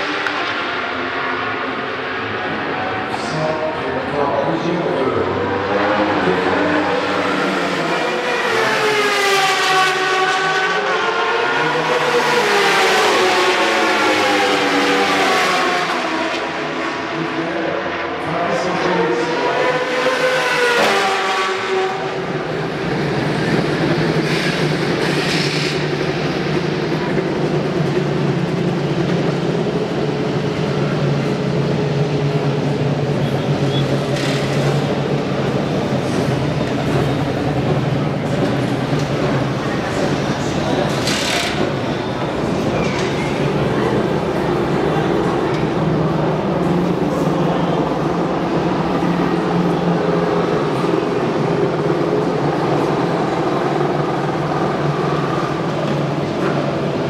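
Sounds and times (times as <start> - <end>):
motorcycle engines droning: 0.0 - 57.0.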